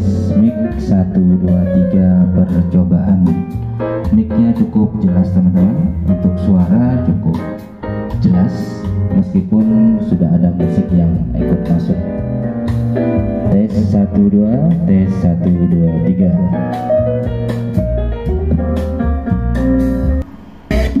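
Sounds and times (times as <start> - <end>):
instrumental jazz guitar and bass: 0.0 - 21.0.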